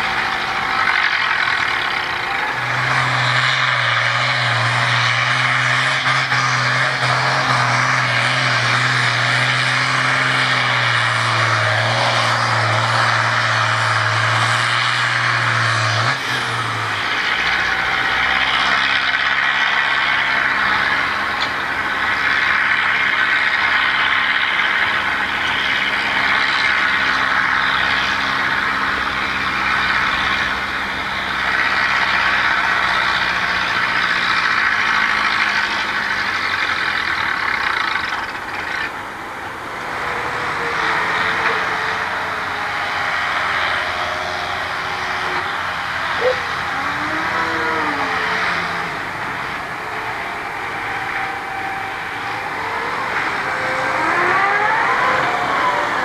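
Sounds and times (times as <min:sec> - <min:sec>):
diesel tractor engines under load: 0:00.0 - 0:56.0.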